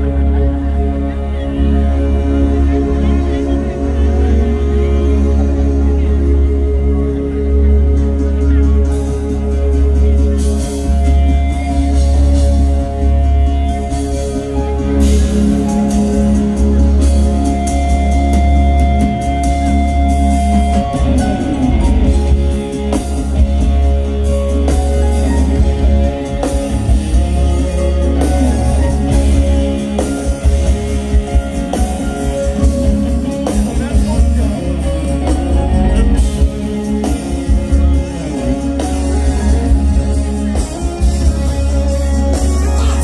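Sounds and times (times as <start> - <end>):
drum kit: 0.0 - 43.0
electric guitar: 0.0 - 43.0
heavy bass line: 0.0 - 43.0
live reggae band: 0.0 - 43.0.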